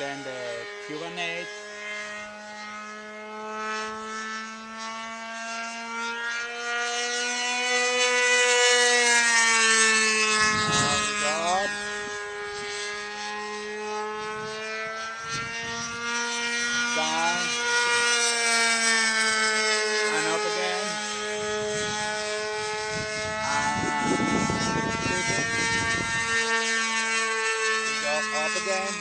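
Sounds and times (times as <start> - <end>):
model airplane engine whining: 0.0 - 29.0.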